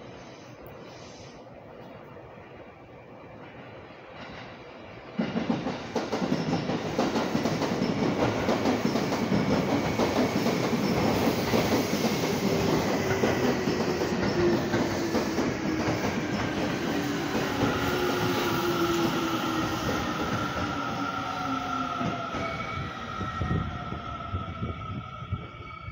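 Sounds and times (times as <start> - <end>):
train wheels rumbling on rails: 3.4 - 25.9.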